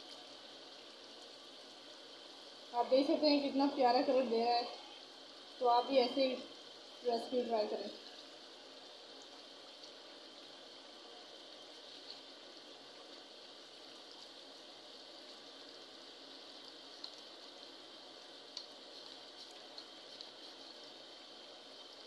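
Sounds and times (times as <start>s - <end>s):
curry sizzling and bubbling in oil: 0.0s - 22.0s.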